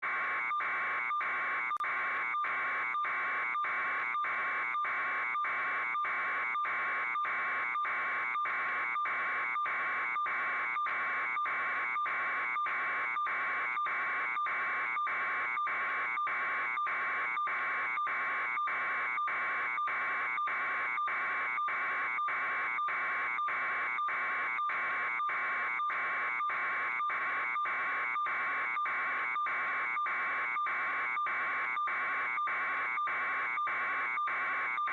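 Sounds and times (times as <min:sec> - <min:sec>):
electronic alarm buzzer pulsing: 0:00.3 - 0:34.9.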